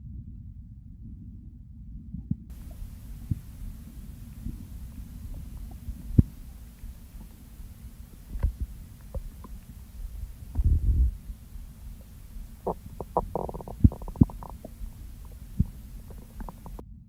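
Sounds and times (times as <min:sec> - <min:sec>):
stomach gurgles and pops: 0:02.5 - 0:16.8
stomach rumbling: 0:02.5 - 0:16.8.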